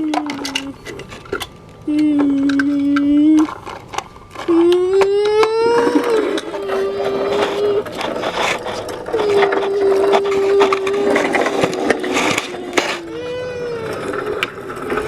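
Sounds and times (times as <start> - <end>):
steady whine: 0.0 - 15.0
toy truck clicking and rattling: 0.0 - 15.0.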